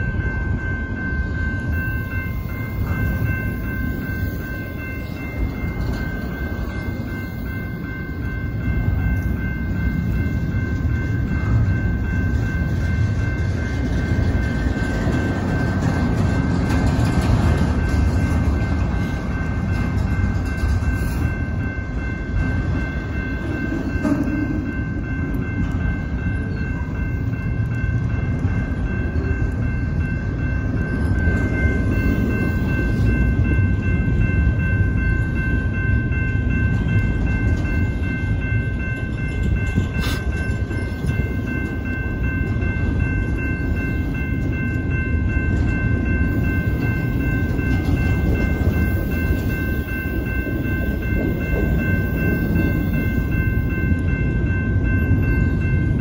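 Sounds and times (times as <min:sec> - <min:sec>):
high ringing tones: 0:00.0 - 0:56.0
steel wheels rumbling on rail: 0:00.0 - 0:56.0.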